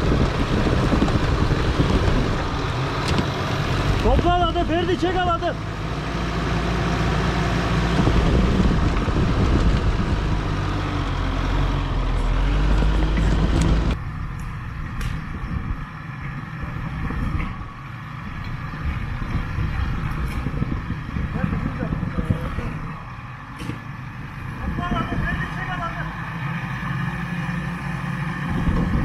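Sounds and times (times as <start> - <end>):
diesel engine running hard: 0.0 - 29.0
distant engine: 0.0 - 29.0.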